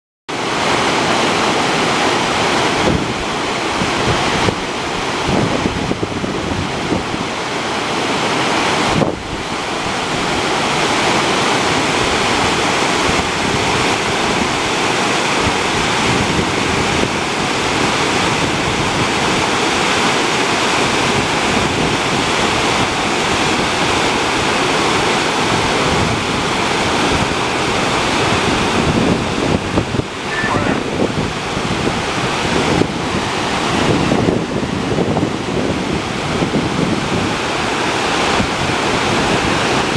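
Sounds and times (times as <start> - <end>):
water rushing over a weir: 0.3 - 39.9
wind buffeting microphone: 2.2 - 39.9.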